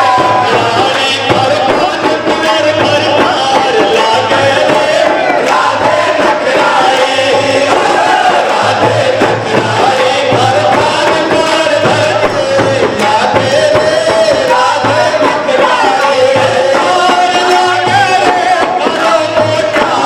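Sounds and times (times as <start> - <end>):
crowd singing along: 0.0 - 20.0
steady drum beat: 0.0 - 20.0
voices singing devotional song: 0.0 - 20.0.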